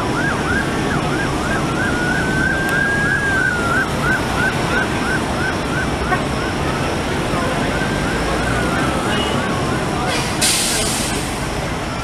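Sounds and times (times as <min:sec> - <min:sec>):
siren wailing: 0:00.0 - 0:10.1
siren yelping: 0:00.0 - 0:10.1
highway traffic rumble: 0:00.0 - 0:12.0.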